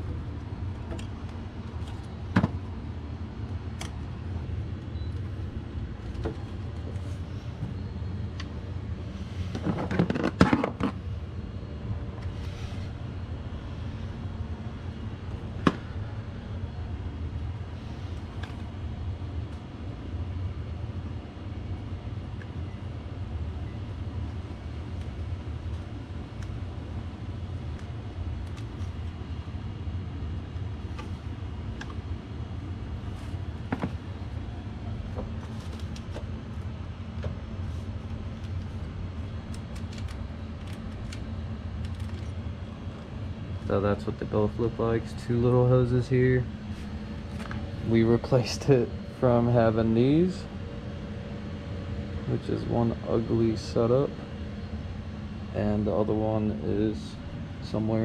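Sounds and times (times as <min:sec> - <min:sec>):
steady low rumble: 0:00.0 - 0:10.1, 0:10.8 - 0:58.0.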